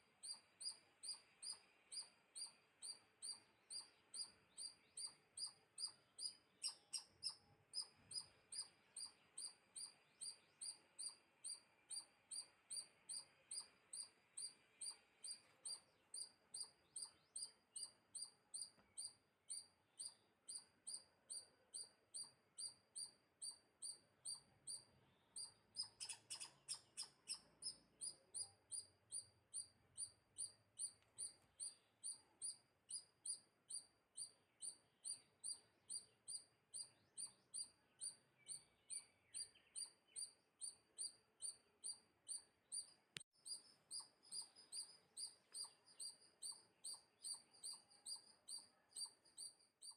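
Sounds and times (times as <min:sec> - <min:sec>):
small bird chirping: 0:00.0 - 0:49.9.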